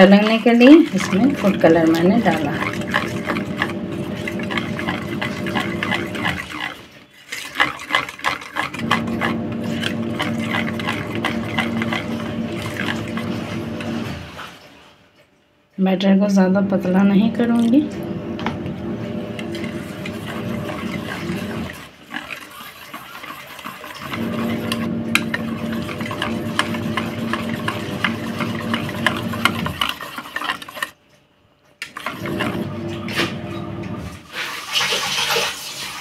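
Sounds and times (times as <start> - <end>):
whisk beating batter in bowl: 0.0 - 14.4, 16.7 - 31.0, 31.8 - 33.4.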